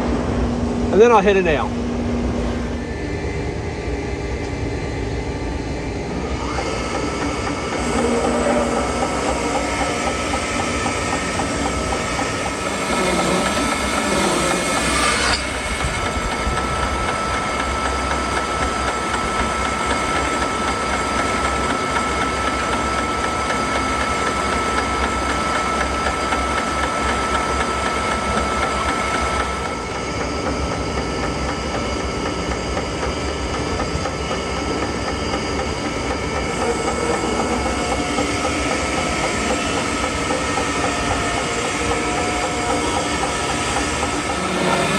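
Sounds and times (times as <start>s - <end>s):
sawmill cutting log: 6.3s - 44.9s
constant high tone: 6.6s - 44.9s.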